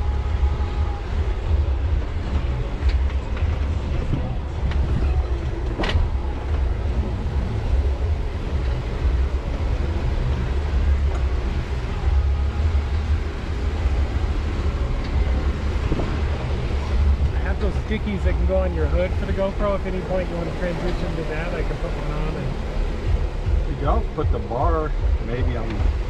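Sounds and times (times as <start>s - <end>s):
vehicle rumbling off-road: 0.0s - 26.0s.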